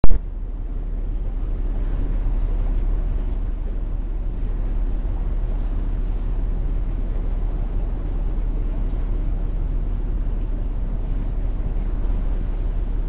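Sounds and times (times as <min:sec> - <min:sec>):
ship rumbling at sea: 0:00.0 - 0:13.0.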